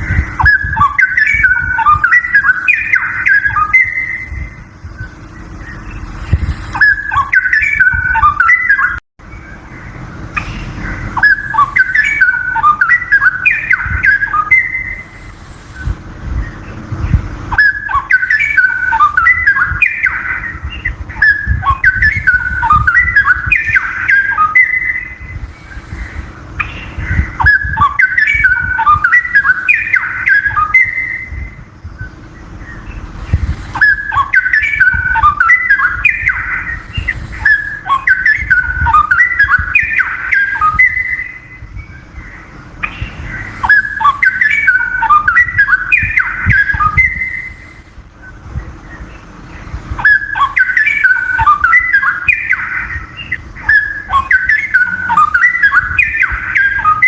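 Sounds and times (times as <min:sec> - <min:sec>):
bird singing whistled phrases: 0:00.1 - 0:57.0.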